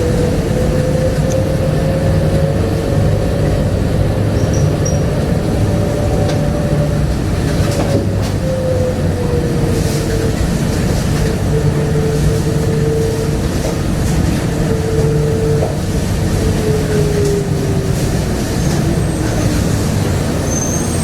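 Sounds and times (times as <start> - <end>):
train car running rumble: 0.0 - 21.0.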